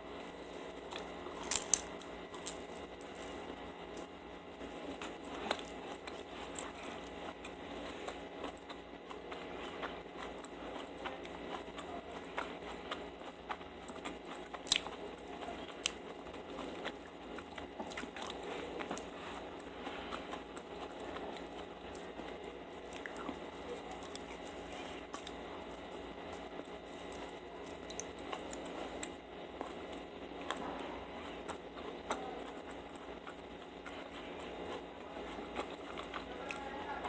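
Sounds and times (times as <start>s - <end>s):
chewing sticky food: 0.0s - 37.0s.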